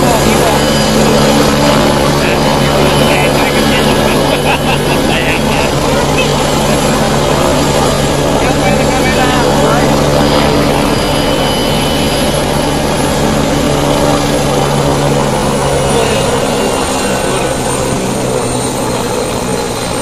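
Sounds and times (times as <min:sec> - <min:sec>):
helicopter rotor running: 0:00.0 - 0:20.0
helicopter turbine whine: 0:00.0 - 0:20.0.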